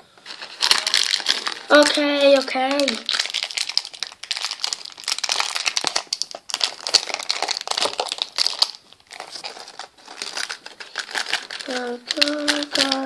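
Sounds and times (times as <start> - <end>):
packaging crinkling: 0.2 - 13.0.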